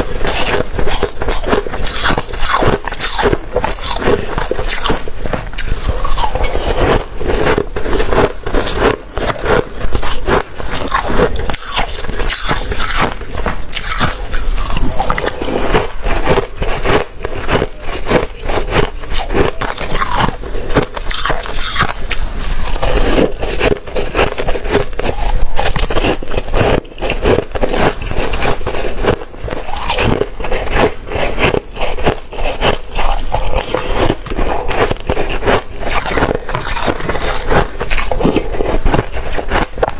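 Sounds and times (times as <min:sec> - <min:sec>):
chewing slushy ice: 0:00.0 - 0:39.9.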